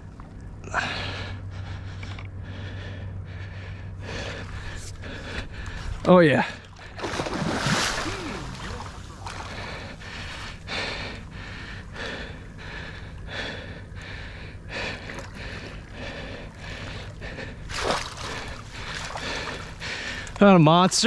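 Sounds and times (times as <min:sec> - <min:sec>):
person breathing hard: 0:00.7 - 0:06.0, 0:08.0 - 0:20.4.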